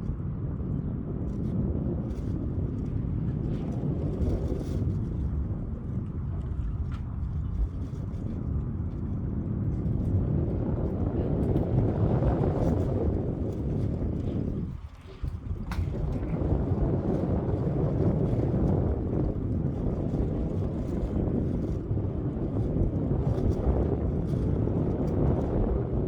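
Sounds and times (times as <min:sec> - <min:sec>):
wind gusting against microphone: 0:00.0 - 0:26.0.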